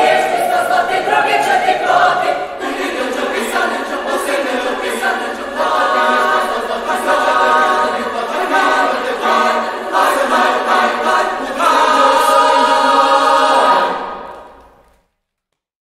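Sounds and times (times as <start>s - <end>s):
youth choir singing a cappella: 0.0s - 14.6s.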